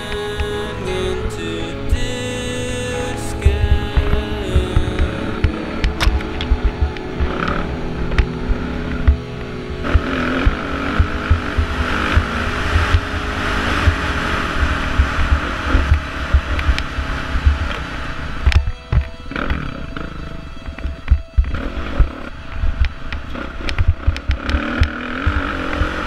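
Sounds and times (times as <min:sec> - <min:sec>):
wind buffeting microphone: 0:03.4 - 0:26.0.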